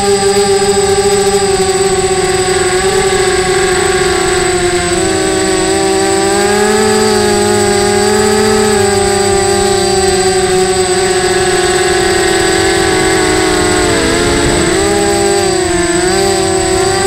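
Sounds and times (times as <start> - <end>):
drone motors whining: 0.1 - 17.0.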